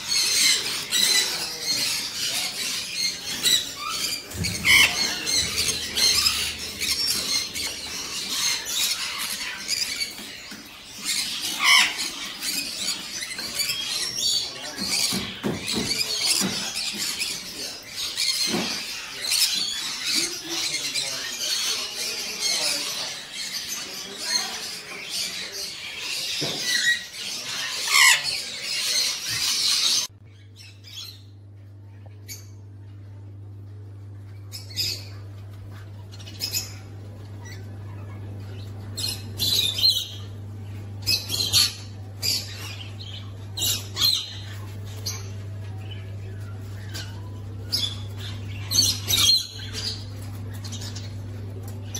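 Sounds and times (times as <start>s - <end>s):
steady low hum: 0.0s - 24.4s, 28.8s - 51.9s
parrots chattering and squawking: 0.0s - 51.9s.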